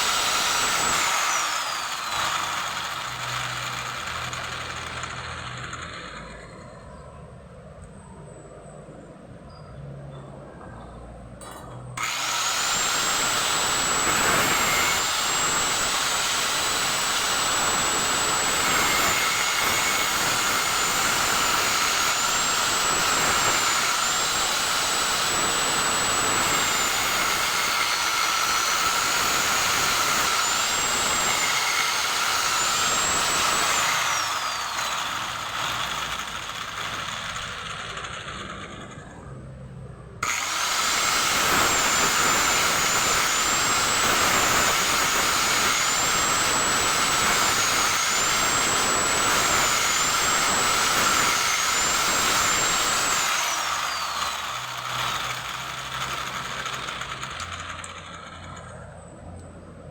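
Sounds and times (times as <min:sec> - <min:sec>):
power tool motor whine: 0:00.0 - 0:07.0, 0:11.5 - 0:39.2, 0:40.2 - 0:59.0.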